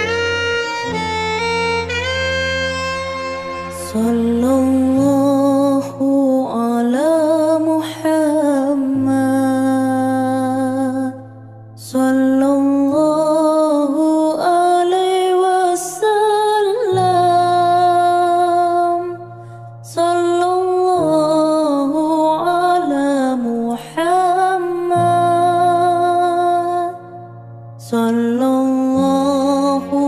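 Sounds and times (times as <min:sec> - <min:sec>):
devotional singing: 0:03.7 - 0:11.2, 0:11.8 - 0:19.2, 0:19.8 - 0:27.2, 0:27.8 - 0:30.0.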